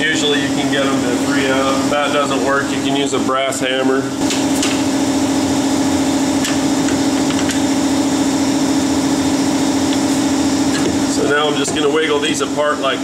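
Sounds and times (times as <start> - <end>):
motor hum: 0.0 - 13.0.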